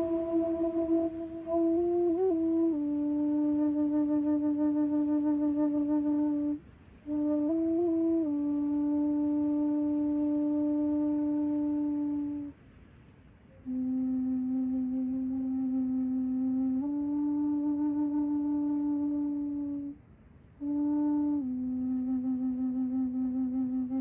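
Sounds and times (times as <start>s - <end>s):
flute playing long notes: 0.0s - 12.6s, 13.6s - 20.0s, 20.6s - 24.0s.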